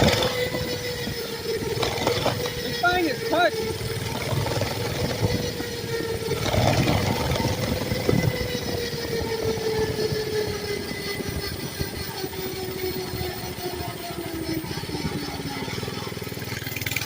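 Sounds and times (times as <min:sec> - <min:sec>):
small engine whining: 0:00.0 - 0:17.0.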